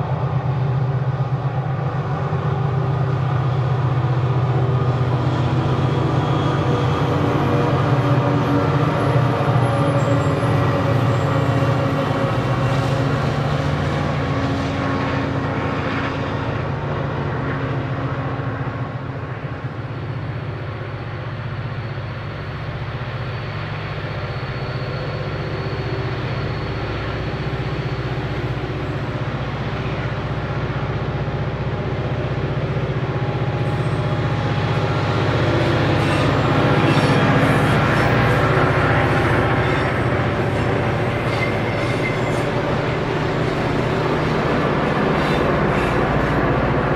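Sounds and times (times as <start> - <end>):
diesel locomotives droning: 0.0 - 46.9.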